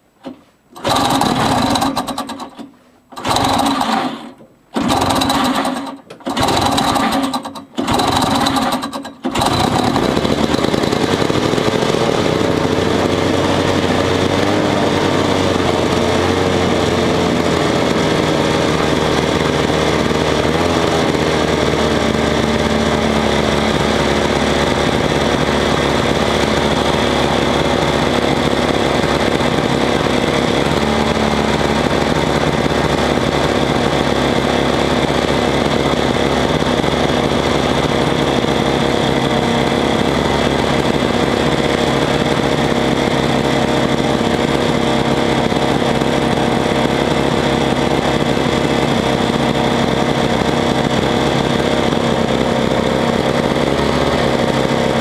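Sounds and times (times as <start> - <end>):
snowmobile engine starting and running: 0.2 - 55.0.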